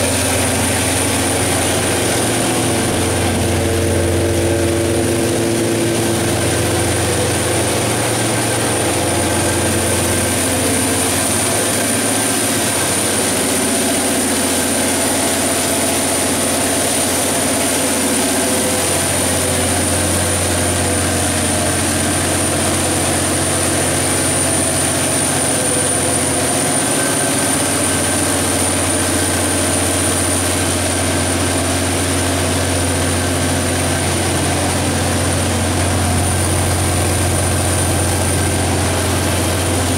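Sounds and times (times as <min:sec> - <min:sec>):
diesel generator engine droning: 0:00.0 - 0:39.9
high-pitched whine: 0:00.0 - 0:39.9.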